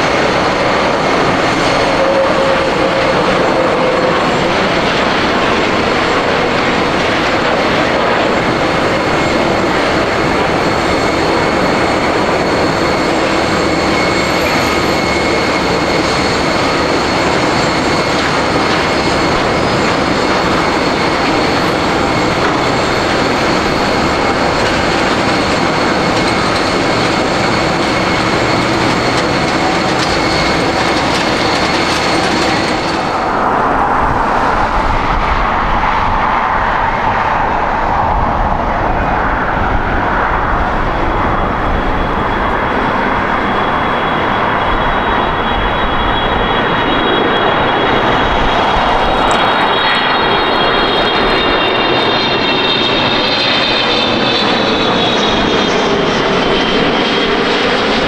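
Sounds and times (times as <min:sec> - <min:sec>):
thin high whine: 0:00.0 - 0:57.3
jet engines roaring: 0:00.0 - 0:58.0
low aircraft rumble: 0:00.0 - 0:58.0.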